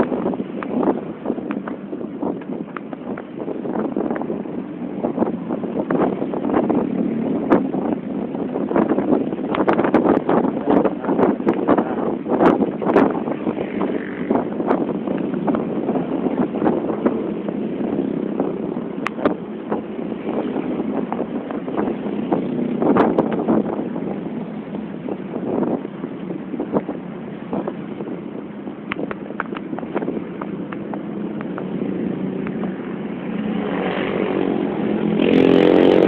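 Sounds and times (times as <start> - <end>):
vehicle engine and road noise: 0.0 - 36.0.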